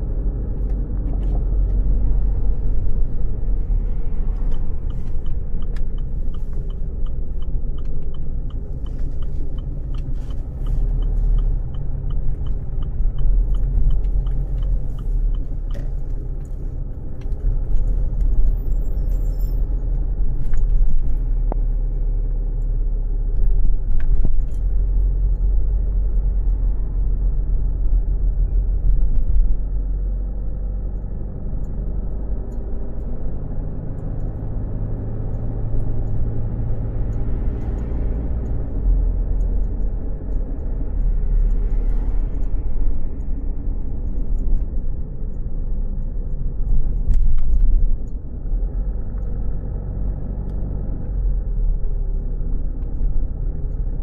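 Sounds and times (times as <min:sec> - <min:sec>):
engine and road rumble: 0:00.0 - 0:54.0
turn signal ticking: 0:00.0 - 0:54.0.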